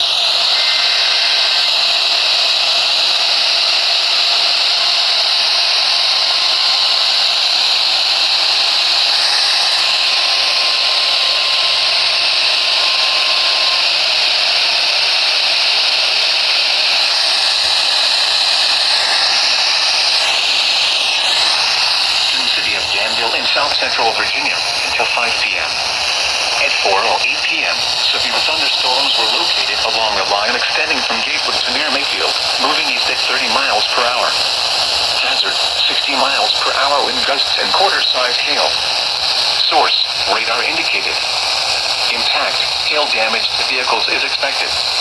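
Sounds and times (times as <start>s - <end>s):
radio static hiss: 0.0s - 2.8s, 7.2s - 45.0s.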